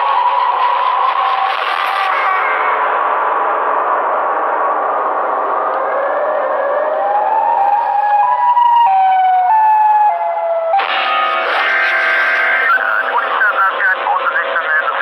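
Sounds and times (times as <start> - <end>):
distorted siren wail: 0.0 - 15.0.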